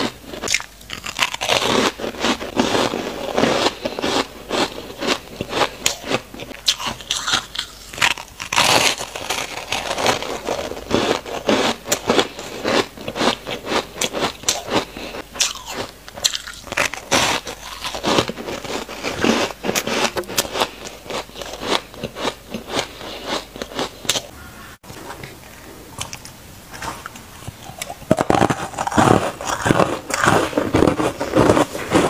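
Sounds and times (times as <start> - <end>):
chewing and crunching ice: 0.0 - 24.3, 25.0 - 32.0.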